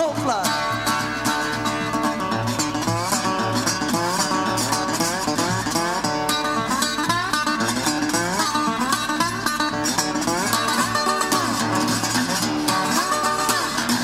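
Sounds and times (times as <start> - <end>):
guitar with bending notes: 0.0 - 14.0
steady bass: 0.0 - 14.0.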